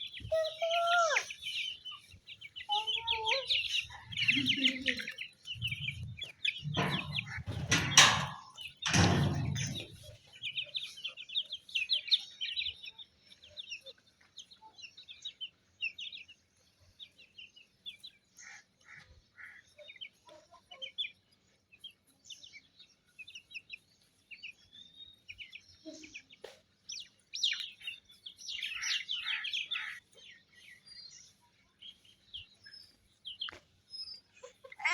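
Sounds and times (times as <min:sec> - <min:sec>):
chickens chirping and clucking: 0:00.0 - 0:34.9.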